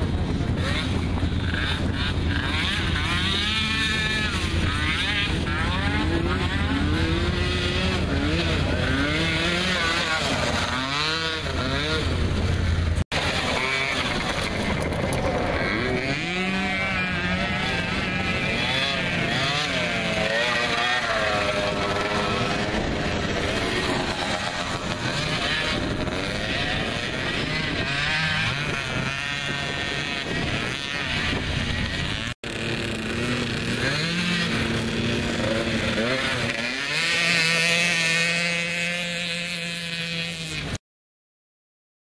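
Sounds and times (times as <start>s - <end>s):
small quad engines revving: 0.0s - 40.8s.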